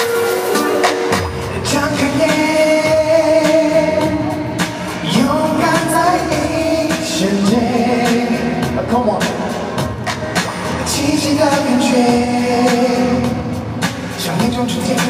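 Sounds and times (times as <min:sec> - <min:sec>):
crowd singing along: 0:00.0 - 0:15.0
pop backing music: 0:00.0 - 0:15.0.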